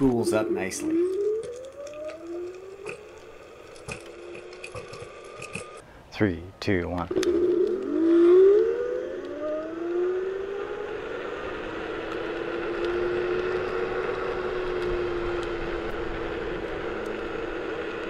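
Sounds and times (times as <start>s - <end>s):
electric motor whining: 0.0s - 5.8s, 7.1s - 18.0s.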